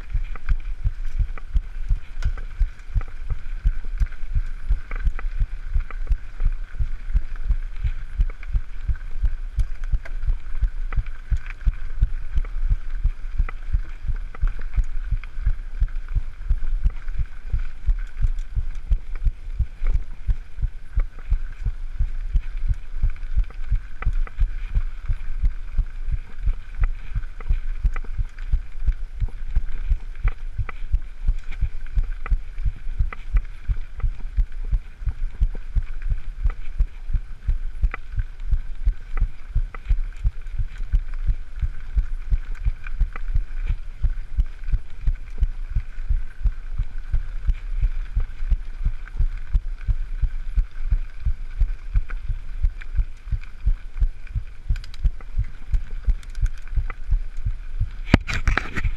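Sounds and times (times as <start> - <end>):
dull low thumps: 0.0 - 58.9
steady rumble: 0.0 - 58.9.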